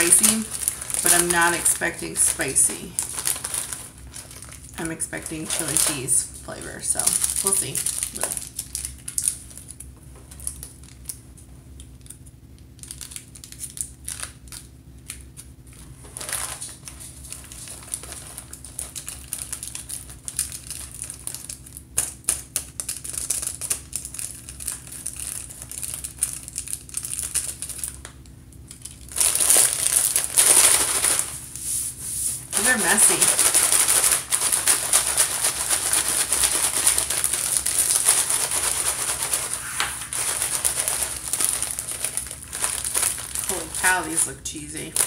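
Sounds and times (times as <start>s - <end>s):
plastic snack bag crinkling: 0.0s - 31.7s, 32.4s - 45.0s.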